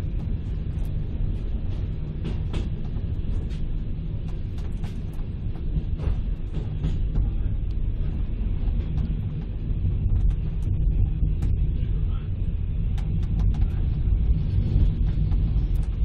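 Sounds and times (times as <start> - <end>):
train running gear rumble: 0.0 - 16.0.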